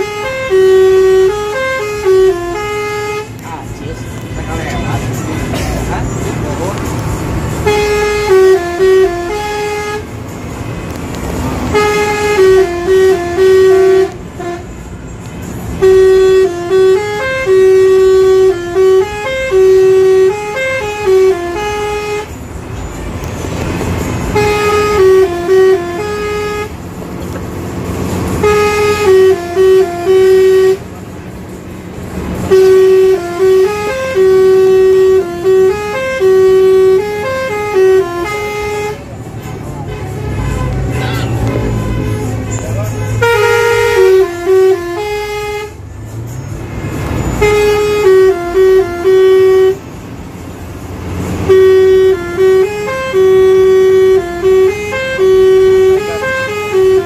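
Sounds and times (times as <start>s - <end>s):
low rumble of engines: 0.0s - 57.0s
multi-tone bus air horn melody: 0.0s - 57.0s.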